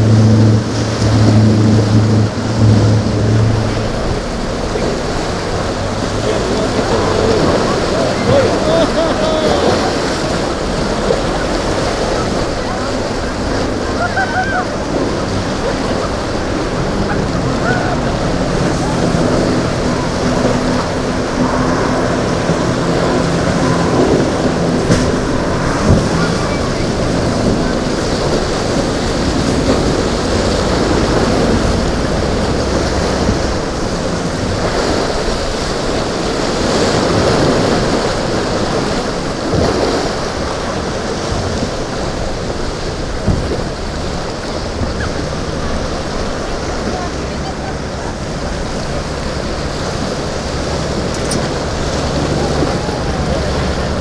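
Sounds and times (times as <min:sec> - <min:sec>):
boat engine droning: 0:00.0 - 0:54.0
waves and surf washing: 0:00.0 - 0:54.0
wind buffeting microphone: 0:00.0 - 0:54.0.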